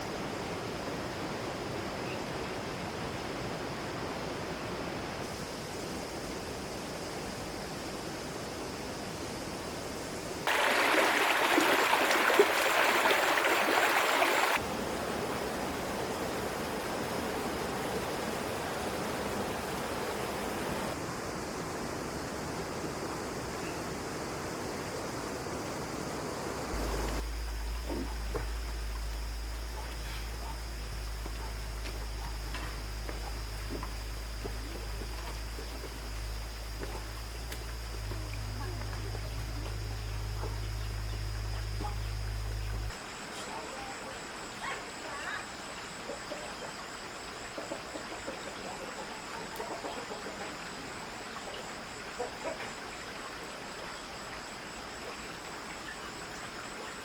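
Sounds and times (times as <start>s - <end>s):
flowing water rushing: 10.3s - 57.0s.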